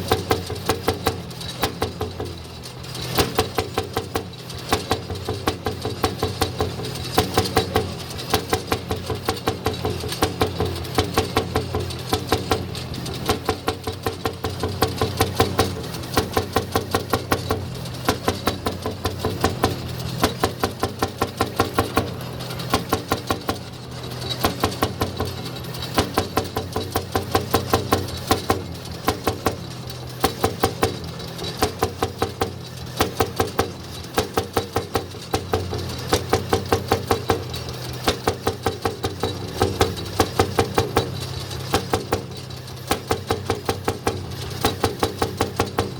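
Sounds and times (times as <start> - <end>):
tractor engine exhaust beats: 0.0 - 45.9.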